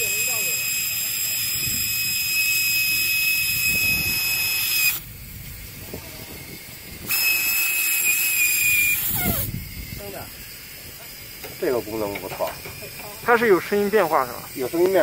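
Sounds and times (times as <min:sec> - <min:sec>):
air hissing from tyre valve: 0:00.0 - 0:15.0.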